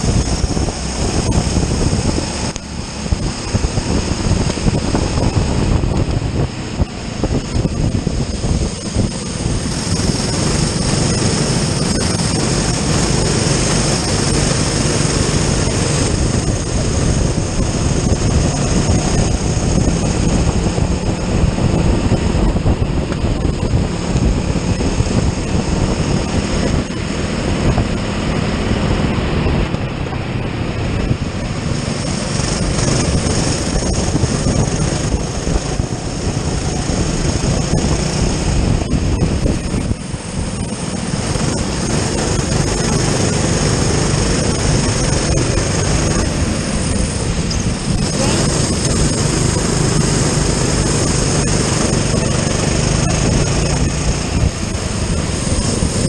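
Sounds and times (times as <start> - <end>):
kart engine revving: 0.0 - 56.0
wind rush on microphone: 0.0 - 56.0.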